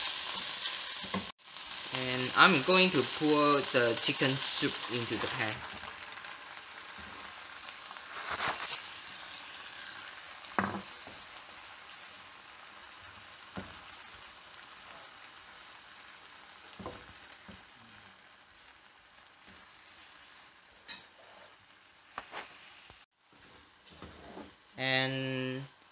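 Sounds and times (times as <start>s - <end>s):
sauce sizzling in a frying pan: 0.0s - 25.9s.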